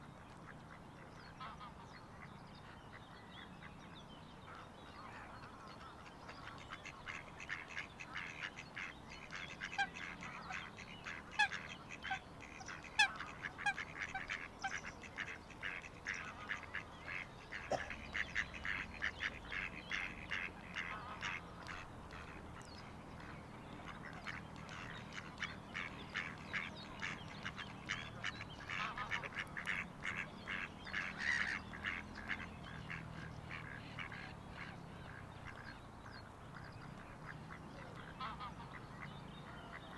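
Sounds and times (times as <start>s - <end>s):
flock of waterfowl calling: 4.5s - 39.9s.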